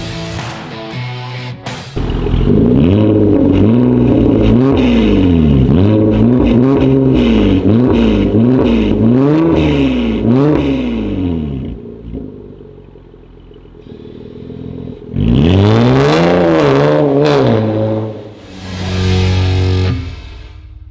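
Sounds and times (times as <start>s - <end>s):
car engine revving: 1.9s - 20.9s.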